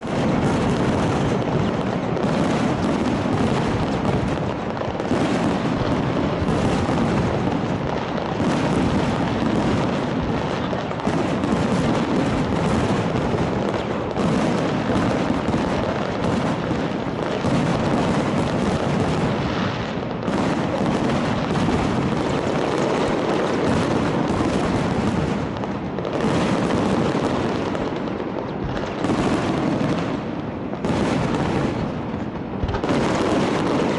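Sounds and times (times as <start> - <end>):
fireworks bangs and booms: 0.0 - 33.9.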